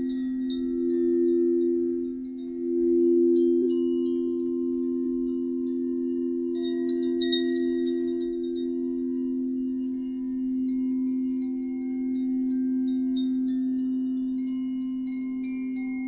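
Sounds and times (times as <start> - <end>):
singing bowls droning: 0.0 - 16.0.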